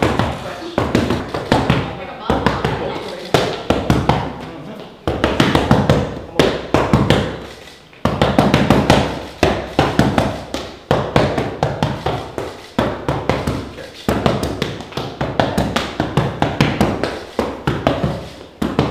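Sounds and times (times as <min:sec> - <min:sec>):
punches slapping focus mitts: 0:00.0 - 0:04.4, 0:05.0 - 0:18.9.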